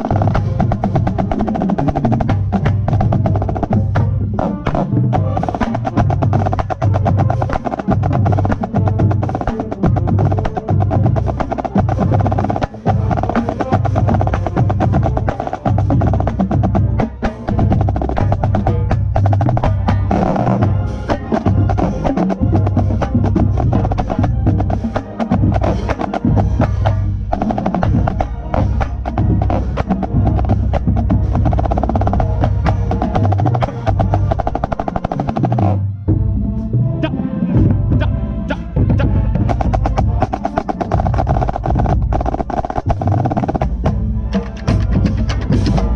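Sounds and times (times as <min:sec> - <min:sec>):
snare drum rolls: 0:00.0 - 0:35.9, 0:38.8 - 0:45.9
marching band playing: 0:00.0 - 0:45.9.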